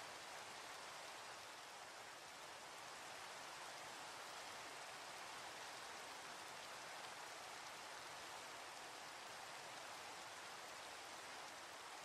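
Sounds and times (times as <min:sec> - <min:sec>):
faint steady rain: 0:00.0 - 0:12.0.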